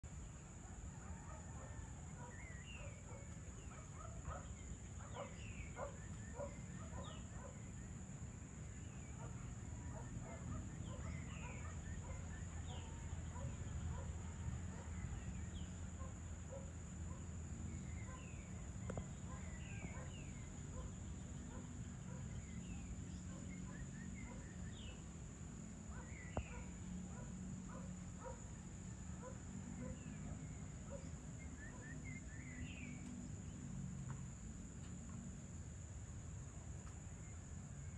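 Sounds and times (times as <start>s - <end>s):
small birds chirping: 1.6s - 34.2s.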